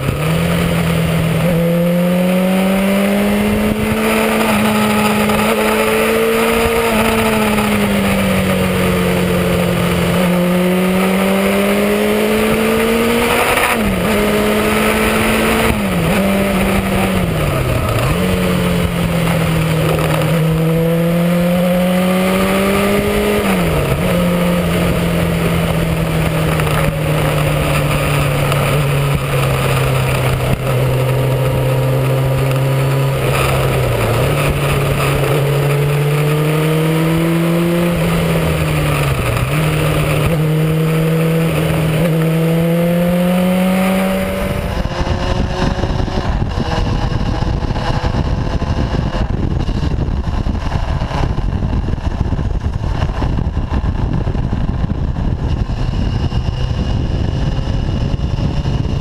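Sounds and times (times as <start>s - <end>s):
motorcycle engine: 0.0s - 59.0s
wind noise: 0.0s - 59.0s.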